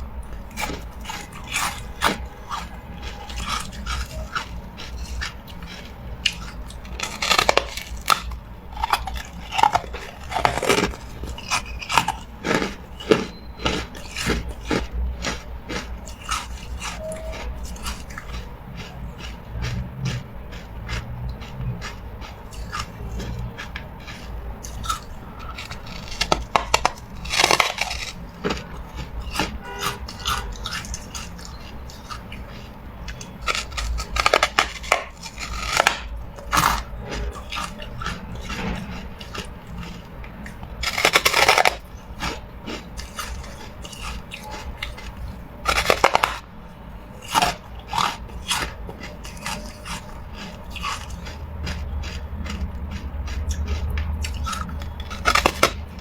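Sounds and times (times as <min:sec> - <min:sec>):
ice crunched between teeth: 0:00.3 - 0:46.5, 0:47.2 - 0:56.0.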